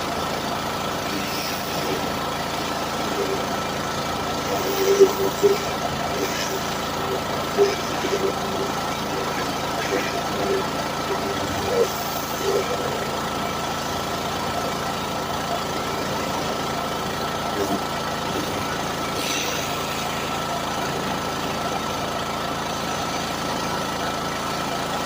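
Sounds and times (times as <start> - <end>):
steady high tone: 0.0 - 21.4
engine idling: 0.0 - 25.0.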